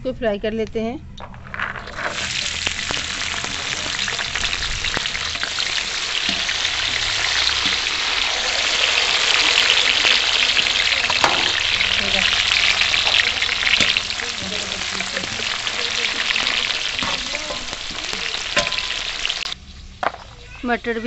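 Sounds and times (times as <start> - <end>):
wire skimmer stirring: 1.2 - 19.4
beans sizzling in hot oil: 1.4 - 21.0.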